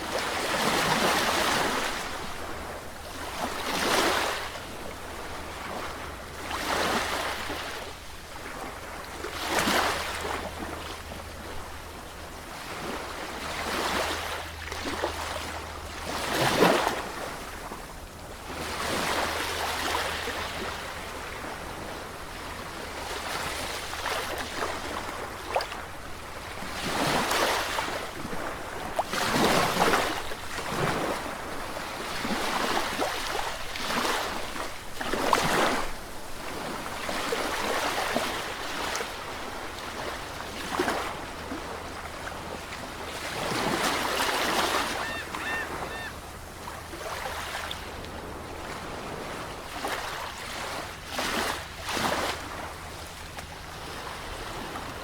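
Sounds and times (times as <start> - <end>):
sea waves breaking: 0.0 - 55.0.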